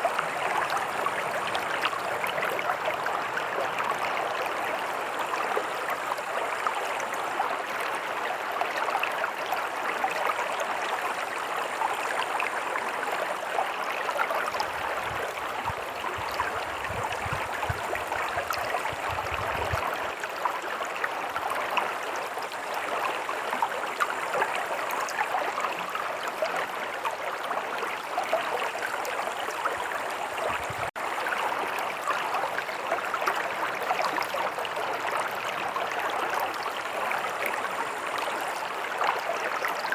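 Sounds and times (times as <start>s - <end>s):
stream water burbling: 0.0s - 39.9s.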